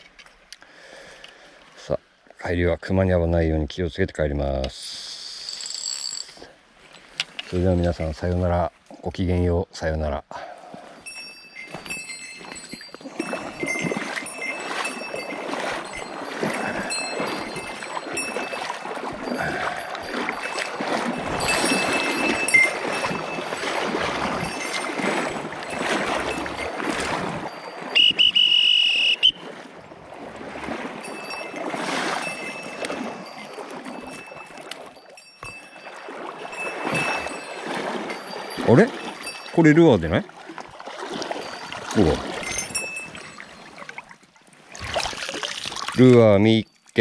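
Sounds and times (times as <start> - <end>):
wading through shallow water: 0.0 - 47.0.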